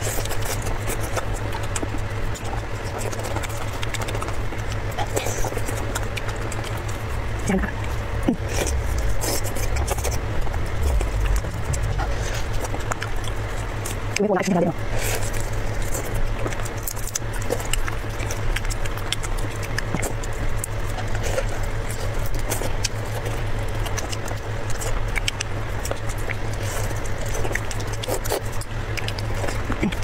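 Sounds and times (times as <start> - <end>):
steady low hum: 0.0 - 30.0
wet chewing and smacking: 0.0 - 30.0.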